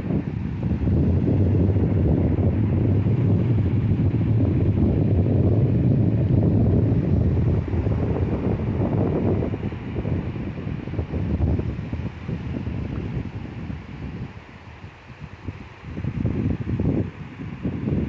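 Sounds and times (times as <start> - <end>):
rumble of sea waves: 0.0 - 18.0.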